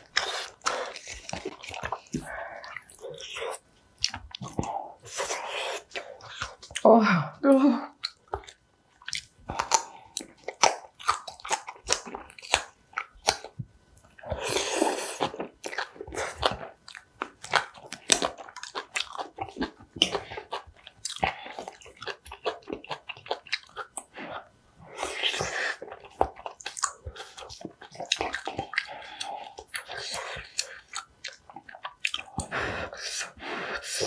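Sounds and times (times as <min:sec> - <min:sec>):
chewing and crunching: 0:00.0 - 0:06.9, 0:08.0 - 0:34.0.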